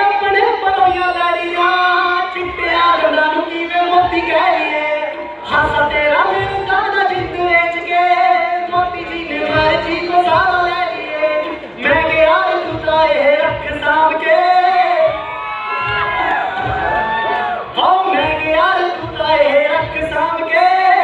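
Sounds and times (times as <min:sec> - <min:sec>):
man singing into a microphone: 0:00.0 - 0:16.0, 0:17.6 - 0:21.0.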